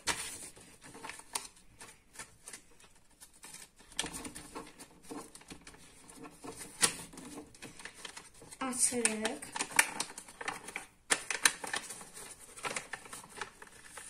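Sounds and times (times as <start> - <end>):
paper crackling and rustling: 0.0 - 14.0.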